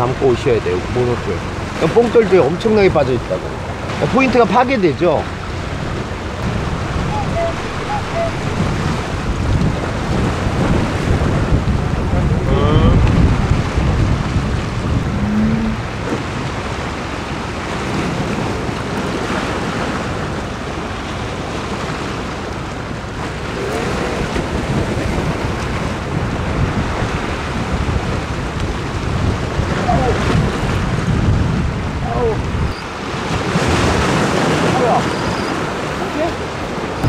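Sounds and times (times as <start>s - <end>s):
waves washing against rocks: 0.0s - 37.0s
wind buffeting microphone: 0.0s - 37.0s.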